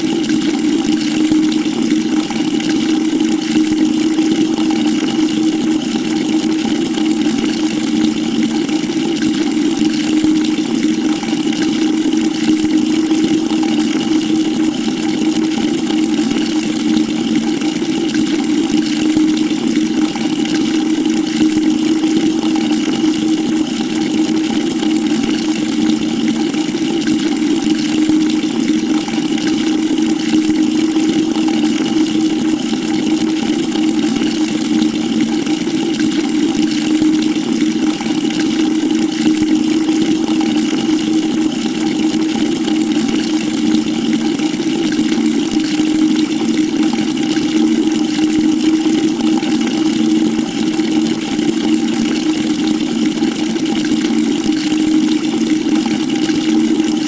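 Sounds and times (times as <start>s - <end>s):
low steady hum: 0.0s - 57.0s
water pouring into a bucket: 0.0s - 57.0s.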